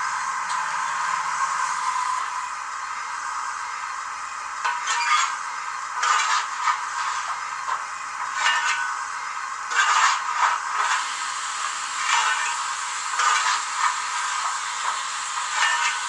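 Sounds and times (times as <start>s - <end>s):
hissing steam locomotive sound: 0.0s - 16.0s.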